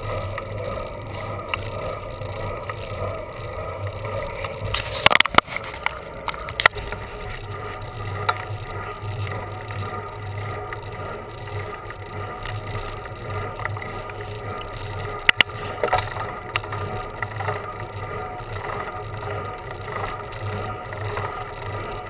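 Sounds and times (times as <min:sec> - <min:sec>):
bicycle rattling and clicking: 0:00.0 - 0:22.0
low hum: 0:00.0 - 0:22.0.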